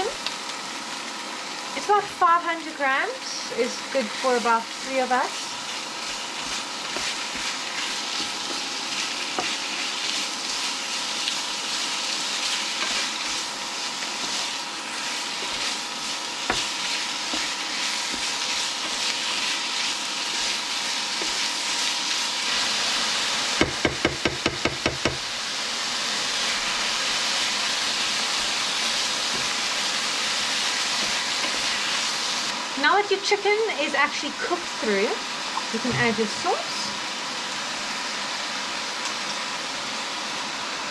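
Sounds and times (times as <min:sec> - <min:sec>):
chicken and onions sizzling in a pan: 0:00.0 - 0:40.9.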